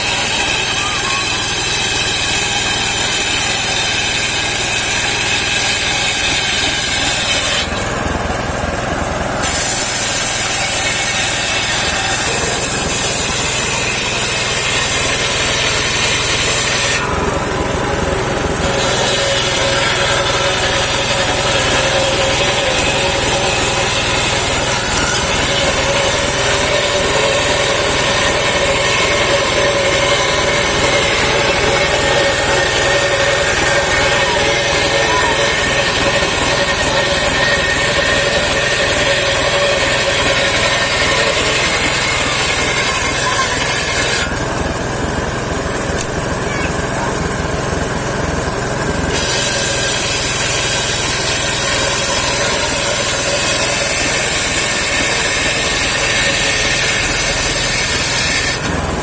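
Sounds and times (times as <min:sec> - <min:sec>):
engine hum: 0:00.0 - 0:59.0
saw blade cutting log: 0:00.0 - 0:59.0.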